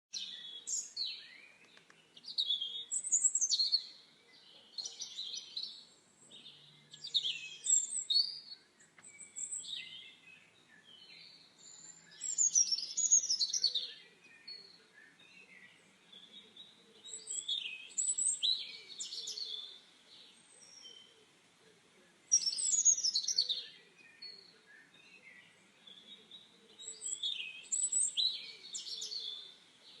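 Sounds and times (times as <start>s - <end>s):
birds singing: 0.1s - 30.0s
faint background noise: 0.1s - 30.0s.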